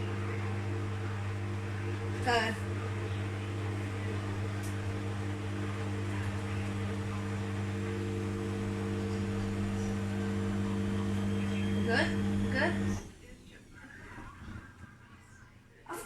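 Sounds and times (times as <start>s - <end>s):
washing machine humming: 0.0s - 15.1s.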